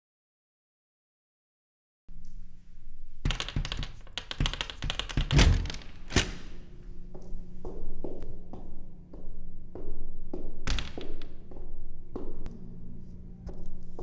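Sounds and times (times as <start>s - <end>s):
steady low hum: 2.1s - 3.3s, 3.9s - 14.0s.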